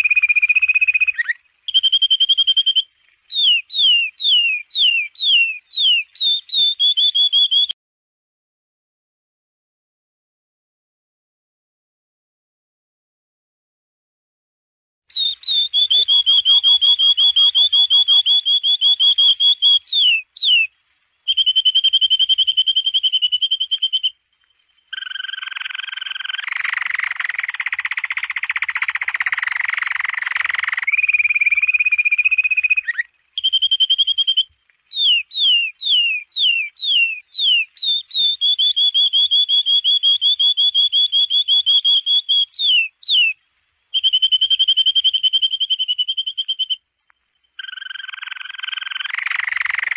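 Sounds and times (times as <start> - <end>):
canary singing trills: 0.0 - 7.8, 15.1 - 49.9.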